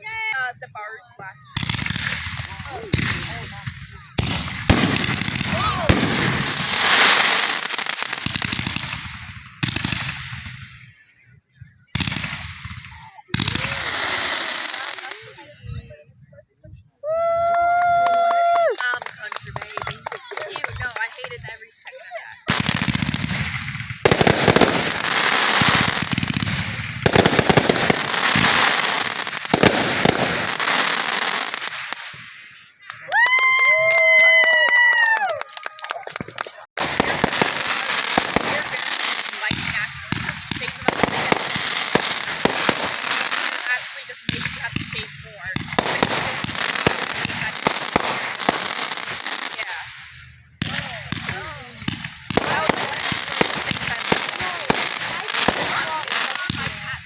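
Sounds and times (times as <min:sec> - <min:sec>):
fireworks crackling: 0:00.0 - 0:11.2, 0:11.8 - 0:16.0, 0:17.2 - 0:57.0
fireworks bangs: 0:00.0 - 0:16.0, 0:17.6 - 0:57.0
fireworks rumble: 0:00.0 - 0:57.0.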